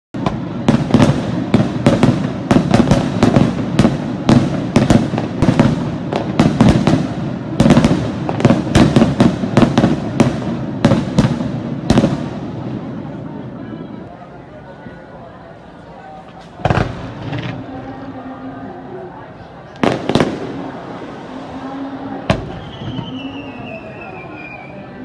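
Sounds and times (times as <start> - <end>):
fireworks bursting: 0.1 - 14.0, 16.2 - 18.5, 19.6 - 25.0.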